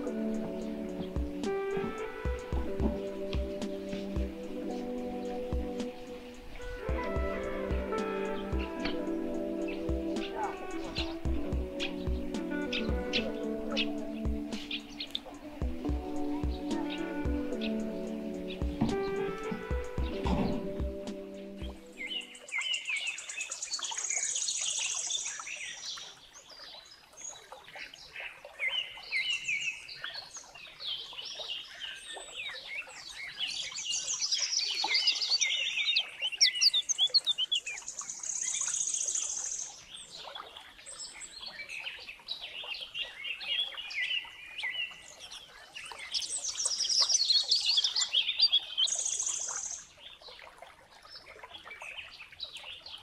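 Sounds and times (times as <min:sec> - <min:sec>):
songbirds singing and chirping: 0:00.0 - 0:53.0.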